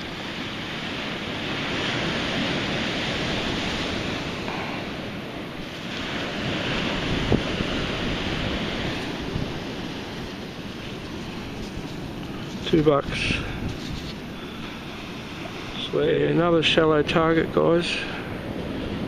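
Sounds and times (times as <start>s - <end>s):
surf rushing on beach: 0.0s - 19.0s
wind on microphone: 0.0s - 19.0s.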